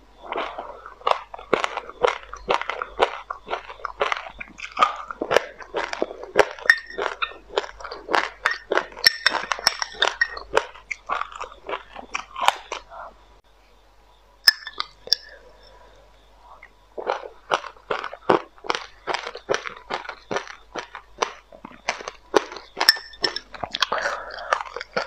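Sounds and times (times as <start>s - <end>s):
crunchy chewing: 0.0s - 13.4s, 14.5s - 25.0s.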